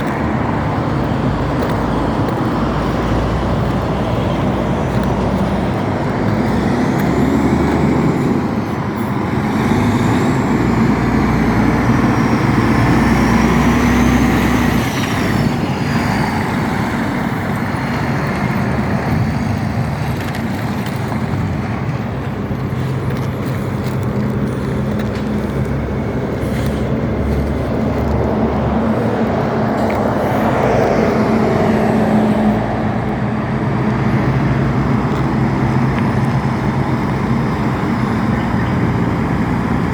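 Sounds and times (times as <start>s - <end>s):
heavy truck engine drone: 0.0s - 39.9s
road noise: 0.0s - 39.9s.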